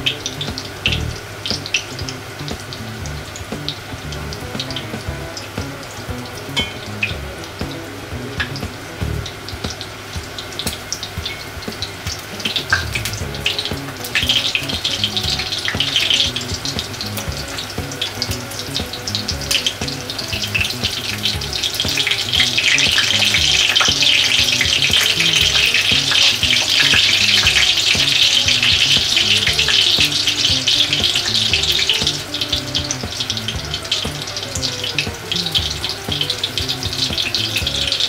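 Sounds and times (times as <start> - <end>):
cutlets sizzling in oil: 0.0 - 38.0.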